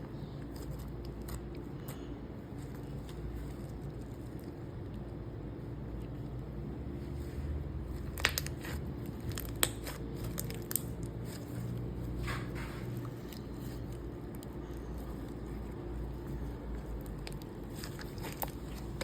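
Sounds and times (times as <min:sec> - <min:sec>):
slime squishing by hand: 0:00.0 - 0:19.0
steady low hum: 0:00.0 - 0:19.0.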